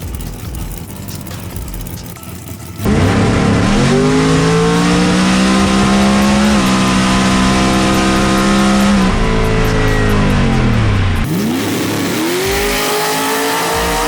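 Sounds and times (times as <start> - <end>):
race car engine at full throttle: 0.0 - 14.0.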